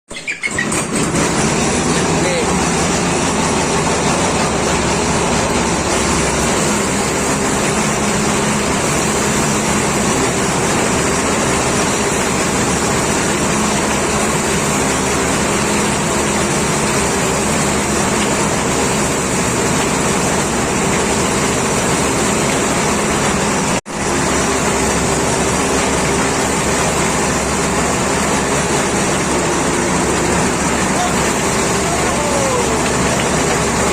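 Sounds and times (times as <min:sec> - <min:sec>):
plucking machine drone: 0:00.4 - 0:33.9.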